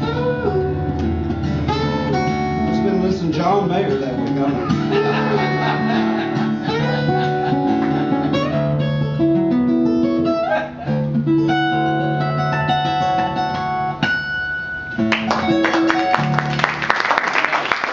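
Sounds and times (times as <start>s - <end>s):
fingerstyle acoustic guitar: 0.0s - 16.8s.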